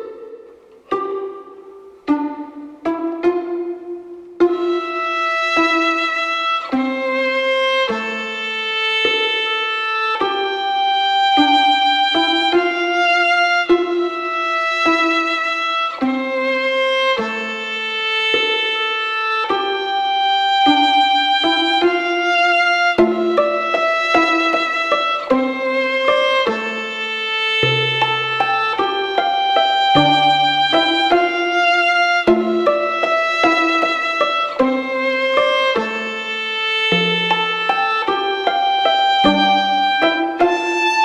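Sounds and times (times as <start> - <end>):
solo violin slow melody: 0.0 - 41.0.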